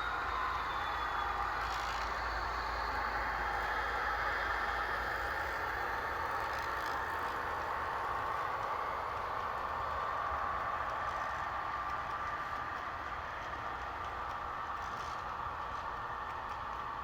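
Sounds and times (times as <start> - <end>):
diesel locomotive engine sound: 0.0 - 17.0.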